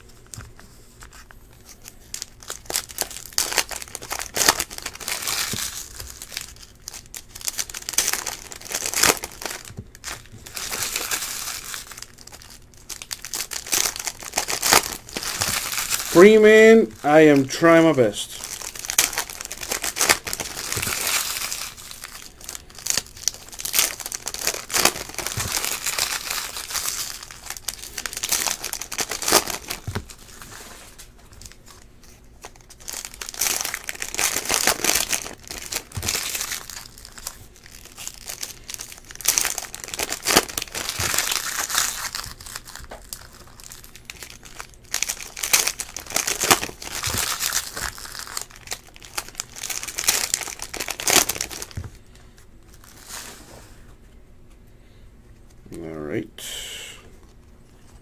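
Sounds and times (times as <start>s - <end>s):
foil wrappers crinkling and tearing: 0.0s - 53.6s.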